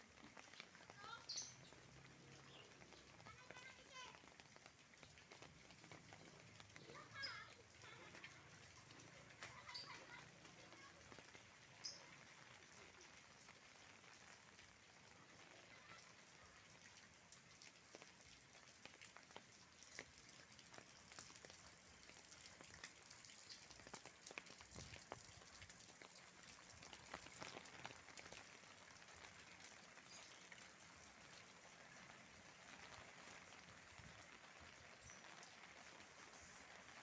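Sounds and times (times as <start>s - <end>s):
faint rain: 0.0s - 37.0s
raindrops ticking on surface: 0.0s - 37.0s.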